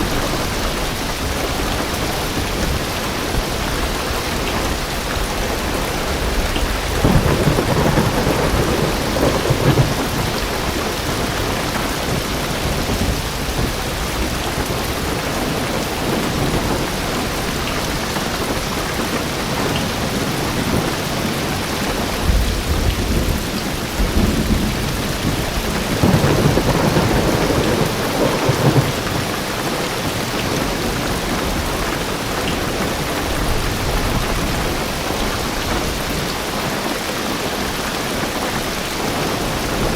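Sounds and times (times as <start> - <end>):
thunder rolling: 0.0 - 36.3
heavy rain drumming on car roof: 0.0 - 39.9.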